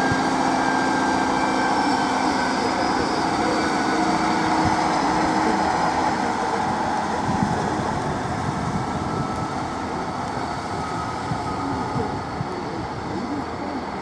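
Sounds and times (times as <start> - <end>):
diesel train engines rumbling: 0.0 - 14.0.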